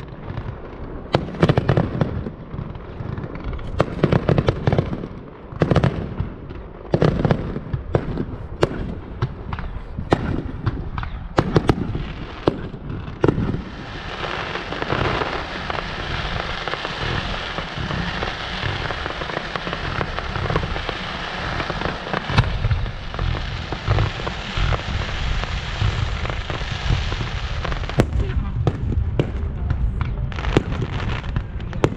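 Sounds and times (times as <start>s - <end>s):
fireworks bangs and crackle: 0.0s - 31.9s.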